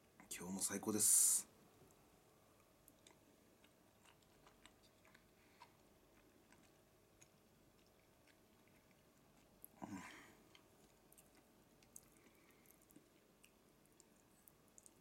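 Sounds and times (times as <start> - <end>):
faint chewing: 1.8 - 15.0.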